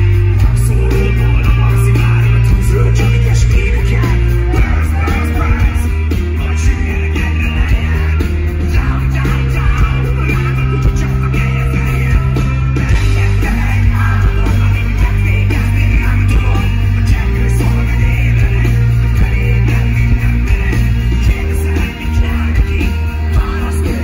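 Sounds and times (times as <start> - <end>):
bass guitar: 0.0 - 24.0
drums: 0.0 - 24.0
electric guitar: 0.0 - 24.0
keyboards: 0.0 - 24.0
man singing: 0.0 - 24.0.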